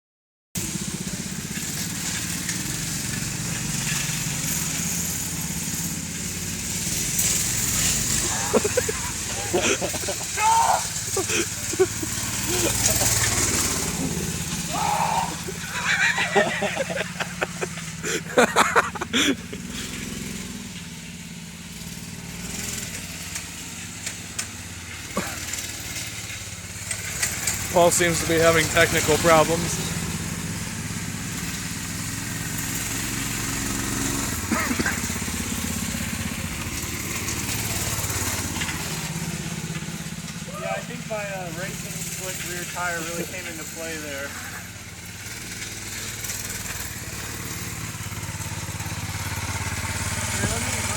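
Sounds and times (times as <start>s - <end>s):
small engine running: 0.6s - 50.9s.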